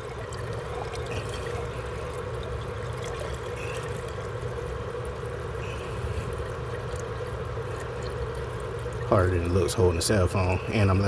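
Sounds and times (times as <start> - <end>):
water pouring into a pipe: 0.0 - 11.0.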